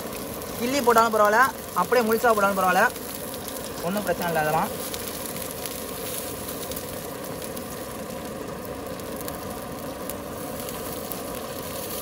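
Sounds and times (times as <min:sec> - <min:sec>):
oil frying in wok: 0:00.0 - 0:12.0
stove burner roaring hiss: 0:00.0 - 0:12.0.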